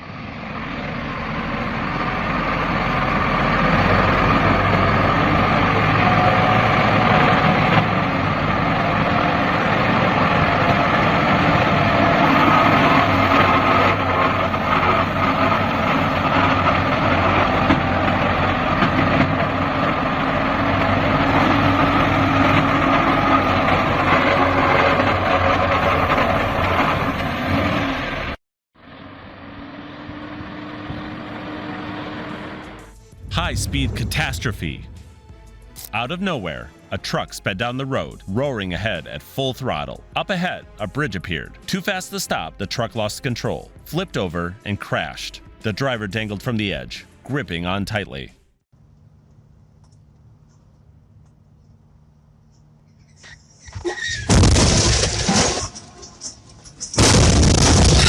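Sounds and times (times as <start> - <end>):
truck engine labouring: 0.0 - 48.1.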